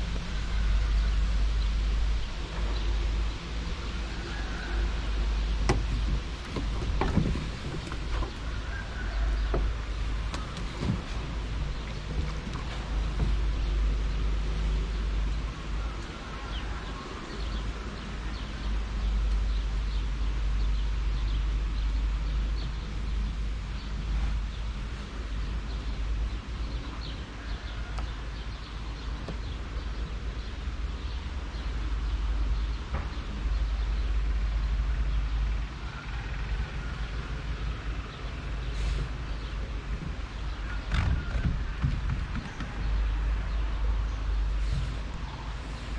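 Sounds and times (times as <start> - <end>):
wind rumble on microphone: 0.0 - 45.9
birds chirping: 0.2 - 45.9.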